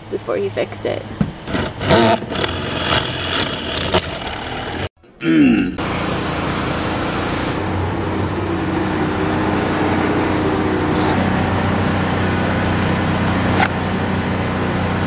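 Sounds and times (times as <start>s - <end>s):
engine running steadily: 1.2s - 4.9s, 5.8s - 15.0s.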